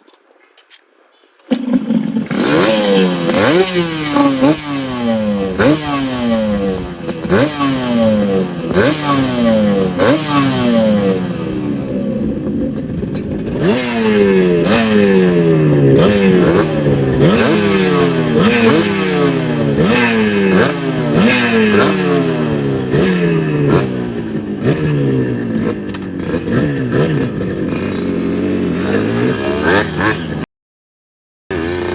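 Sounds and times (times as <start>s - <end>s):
motorcycle engine revving: 1.5s - 30.5s, 31.5s - 31.9s.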